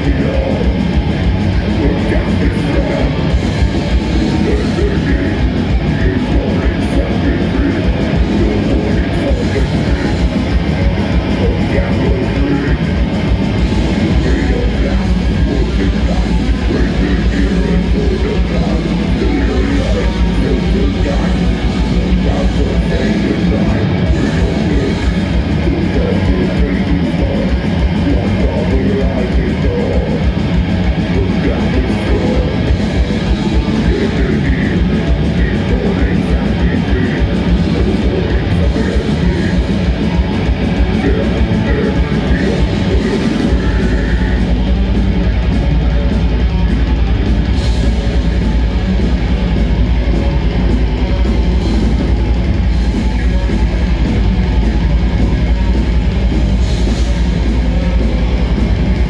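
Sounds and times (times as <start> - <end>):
bass guitar: 0.0 - 59.0
distorted electric guitars: 0.0 - 59.0
drums: 0.0 - 59.0.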